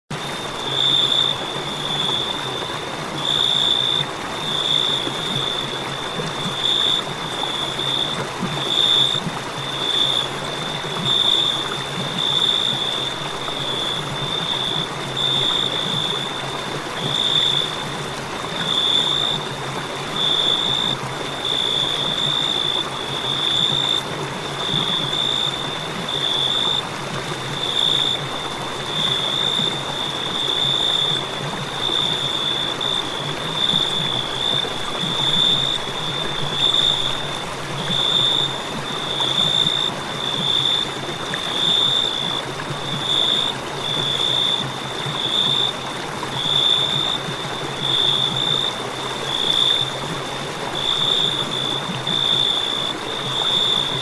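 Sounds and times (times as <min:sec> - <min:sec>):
crickets trilling: 0:00.2 - 0:54.0.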